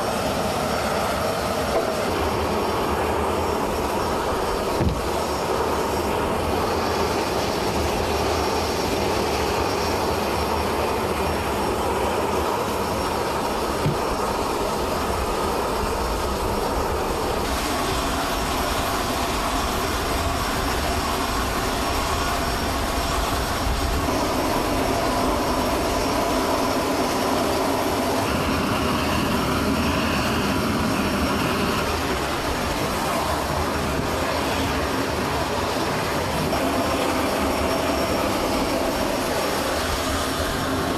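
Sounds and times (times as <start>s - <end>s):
jet aircraft engine noise: 0.0s - 40.9s.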